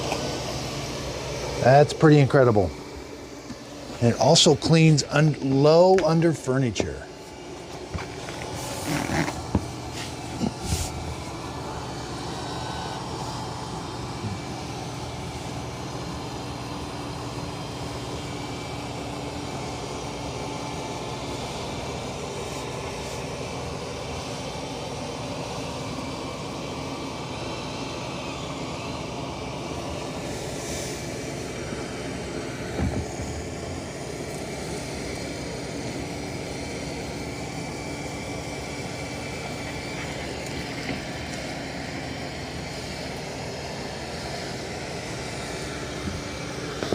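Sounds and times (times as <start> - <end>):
robot vacuum whirring hum: 7.0 - 46.9.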